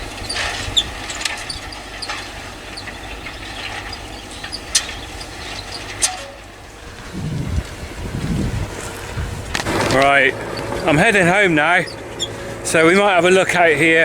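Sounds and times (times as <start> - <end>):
tractor engine rumble: 0.0 - 14.0.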